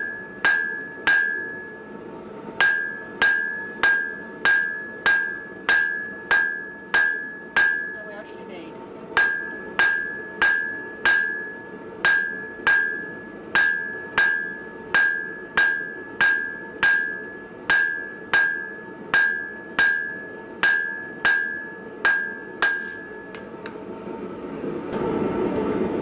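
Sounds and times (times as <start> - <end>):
hammer striking steel on anvil: 0.0 - 2.0, 2.6 - 8.3, 9.2 - 23.8.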